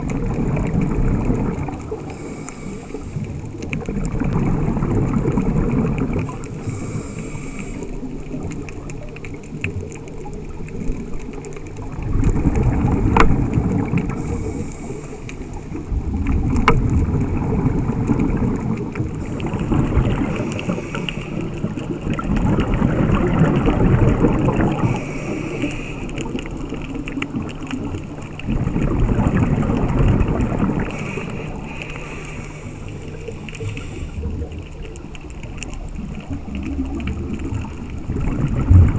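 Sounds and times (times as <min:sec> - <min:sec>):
underwater exhaled bubbles: 0:00.0 - 0:38.9.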